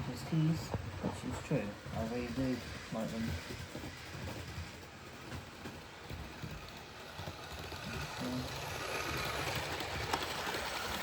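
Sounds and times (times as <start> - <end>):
model train rattling whir: 0.0 - 11.0.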